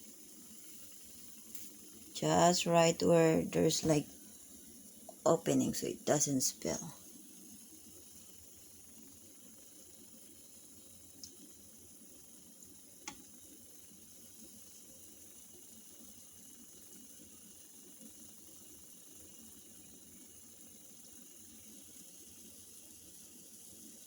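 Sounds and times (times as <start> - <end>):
room hiss: 0.0 - 24.0.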